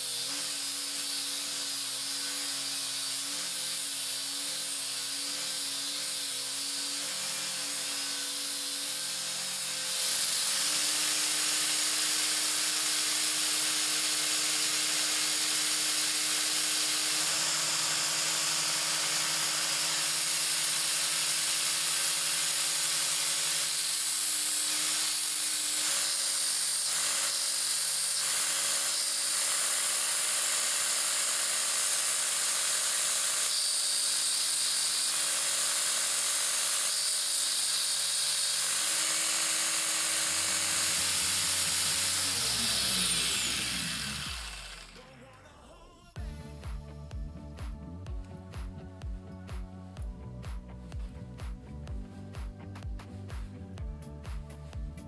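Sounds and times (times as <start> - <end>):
belt grinder whining: 0.0 - 45.2
drill bit grinding on belt: 0.0 - 45.2.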